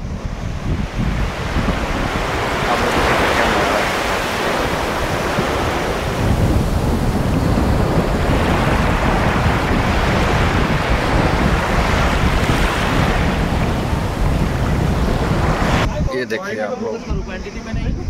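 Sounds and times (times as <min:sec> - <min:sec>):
sea surf: 0:00.0 - 0:16.2
wind buffeting microphone: 0:00.0 - 0:18.0.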